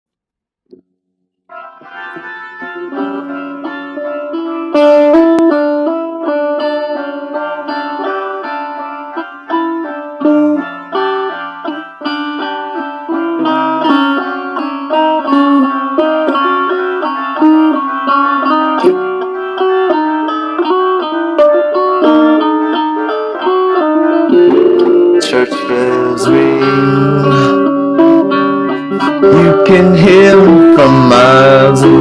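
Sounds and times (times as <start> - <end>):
plucked string instrument: 1.5 - 32.0.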